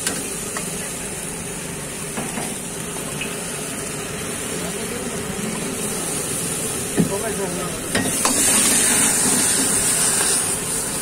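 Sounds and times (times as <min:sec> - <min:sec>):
vegetables sizzling in wok: 0:00.0 - 0:11.0
wok flaming with loud hiss: 0:00.0 - 0:11.0.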